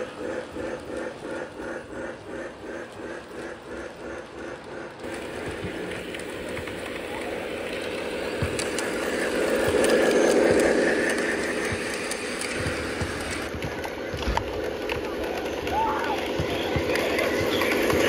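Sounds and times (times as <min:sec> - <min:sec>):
toy train running on track: 0:00.0 - 0:18.0
track clicks: 0:00.0 - 0:18.0.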